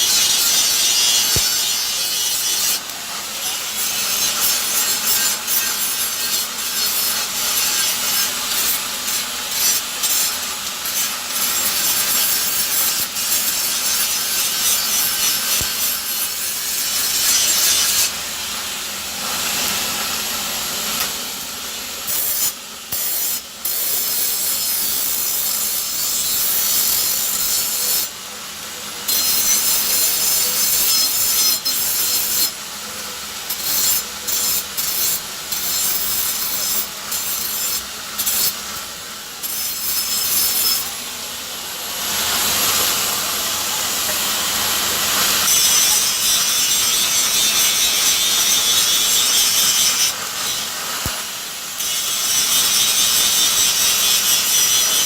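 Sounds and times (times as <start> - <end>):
workshop tool rasping: 0.0 - 18.5, 22.0 - 28.2, 29.1 - 32.6, 33.5 - 41.1, 45.0 - 55.0.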